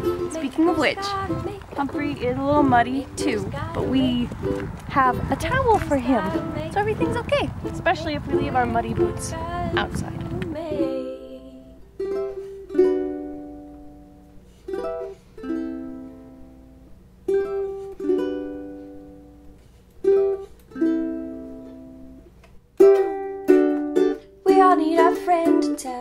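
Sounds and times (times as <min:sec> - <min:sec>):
ukulele strumming chords: 0:00.0 - 0:26.0.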